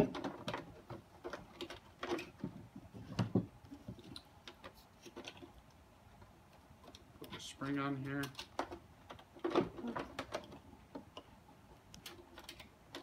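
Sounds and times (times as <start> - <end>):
plastic parts clicking and knocking: 0.0 - 13.0.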